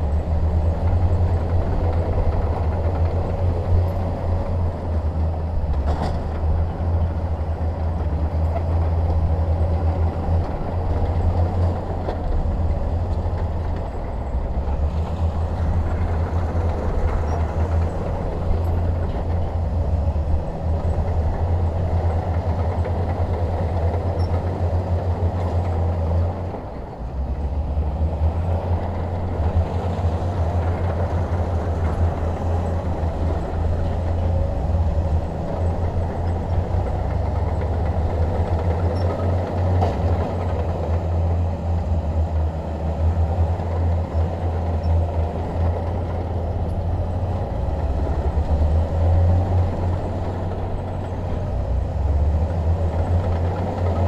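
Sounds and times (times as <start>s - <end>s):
bulldozer engine droning: 0.0s - 54.0s.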